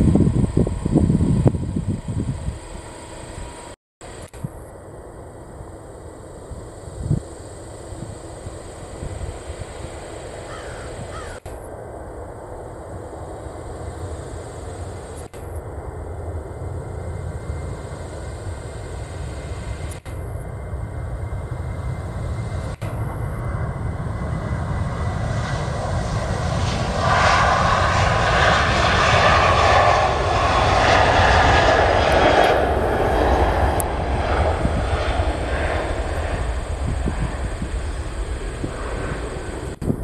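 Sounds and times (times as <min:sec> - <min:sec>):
jet engines at takeoff power: 0:00.0 - 0:40.0.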